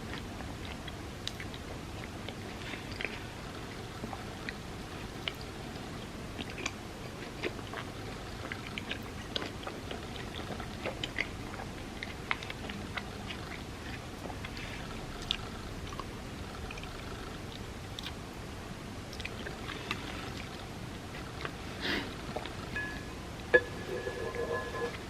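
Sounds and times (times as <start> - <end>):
wet chewing mouth clicks: 0.0 - 18.2, 19.1 - 23.0.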